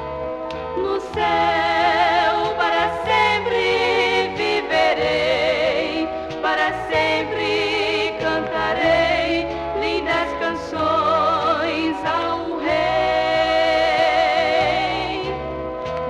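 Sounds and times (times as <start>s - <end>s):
gospel band music: 0.0s - 16.0s.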